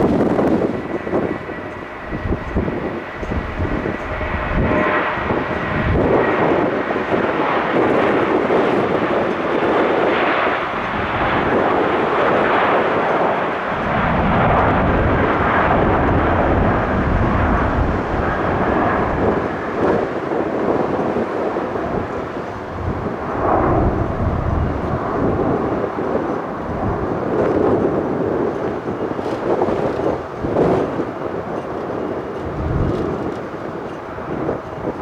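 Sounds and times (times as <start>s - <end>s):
jet airliner taking off: 0.0s - 35.0s.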